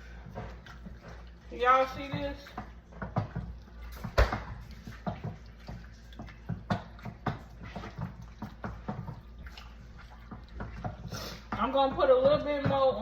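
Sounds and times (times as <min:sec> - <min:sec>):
food sloshing: 0:00.0 - 0:13.0.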